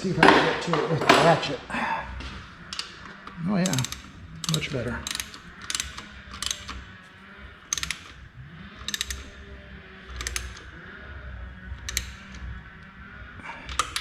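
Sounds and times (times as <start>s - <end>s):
hand ratchet clicking: 0.0s - 11.1s, 11.7s - 14.0s.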